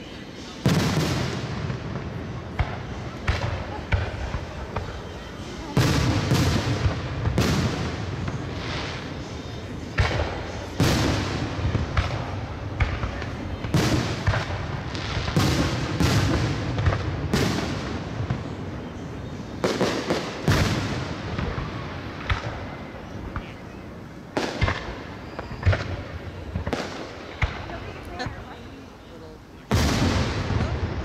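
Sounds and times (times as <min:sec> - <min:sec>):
fireworks booming with echo: 0:00.0 - 0:31.0.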